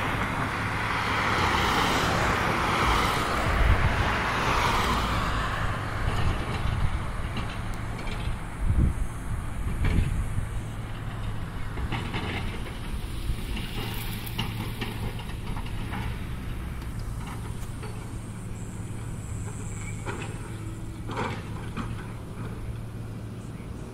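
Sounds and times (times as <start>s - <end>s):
low engine rumble: 0.0s - 23.9s.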